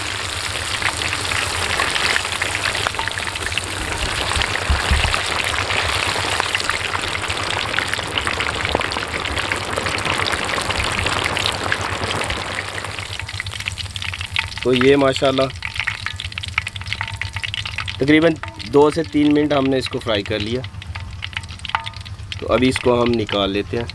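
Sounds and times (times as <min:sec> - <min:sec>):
fish deep-frying in hot oil: 0:00.0 - 0:23.9.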